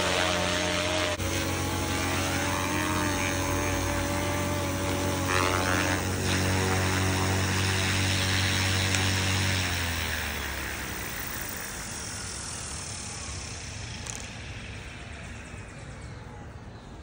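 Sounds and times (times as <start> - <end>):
whine sliding down in pitch: 0.0 - 16.9
helicopter motor and rotor running: 0.0 - 17.0.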